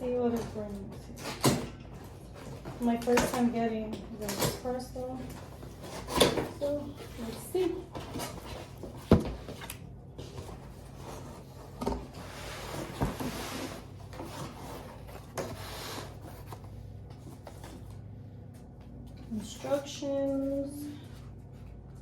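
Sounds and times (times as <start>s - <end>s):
cardboard and paper rustling: 0.0s - 18.0s.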